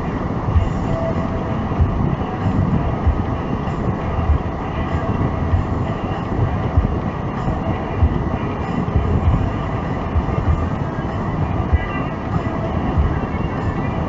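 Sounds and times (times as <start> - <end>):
road thumps: 0.0 - 13.9
car tyres and engine rumble: 0.0 - 14.0.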